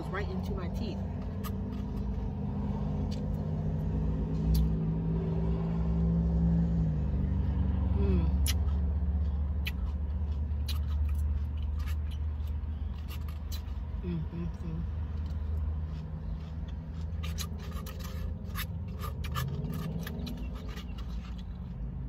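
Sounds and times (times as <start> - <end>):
car engine rumble from inside: 0.0 - 22.0.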